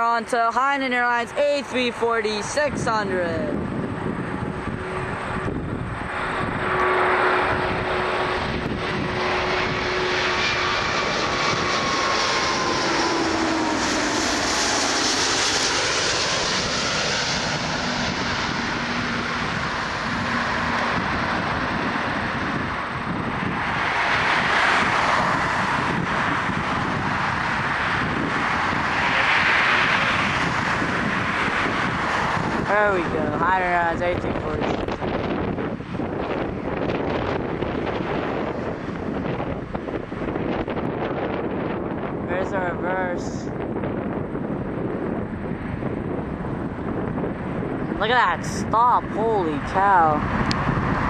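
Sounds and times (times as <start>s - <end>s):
jet engines whining and rushing: 0.0s - 51.0s.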